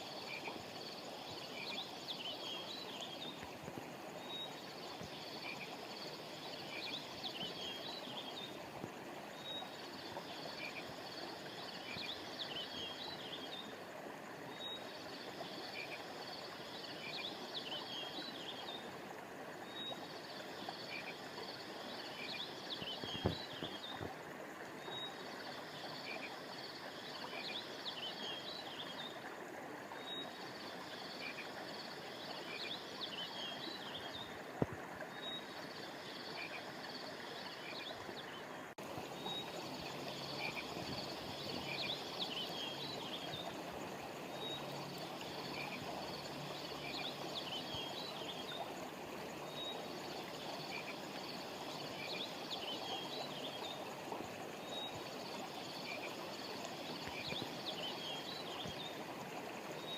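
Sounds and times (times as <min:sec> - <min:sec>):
frogs chirping: 0:00.0 - 0:08.6, 0:09.2 - 0:13.9, 0:14.5 - 0:29.3, 0:29.9 - 0:59.9
stream water flowing: 0:00.0 - 0:59.9.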